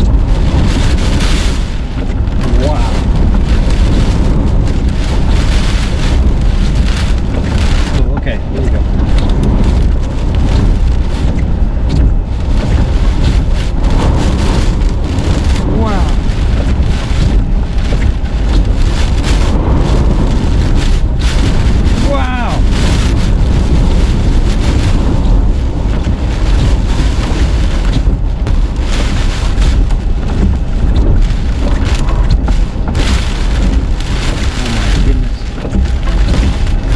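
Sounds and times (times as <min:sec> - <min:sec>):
driving rain hissing: 0:00.0 - 0:36.9
strong wind buffeting microphone: 0:00.0 - 0:36.9.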